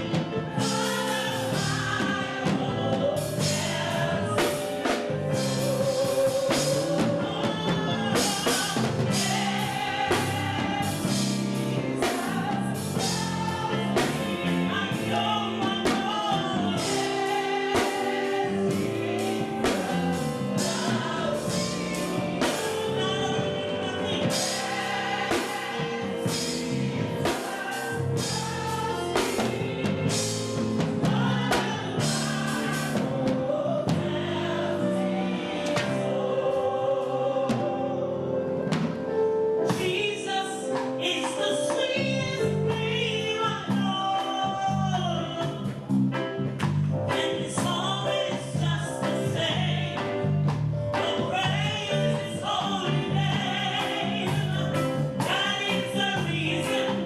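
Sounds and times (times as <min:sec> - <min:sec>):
gospel choir singing: 0:00.0 - 0:46.5, 0:47.1 - 0:57.0
instrumental accompaniment: 0:00.0 - 0:57.0.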